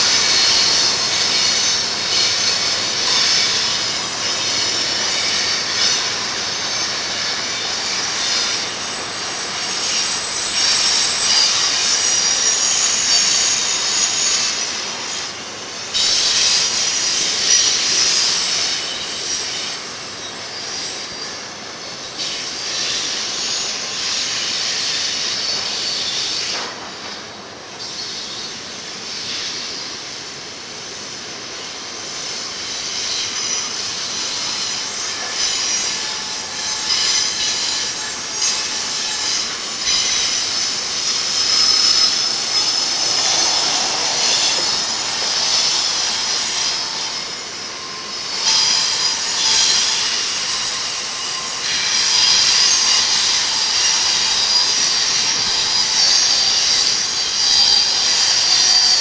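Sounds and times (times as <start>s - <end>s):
train wheels squealing on rails: 0.0s - 59.0s.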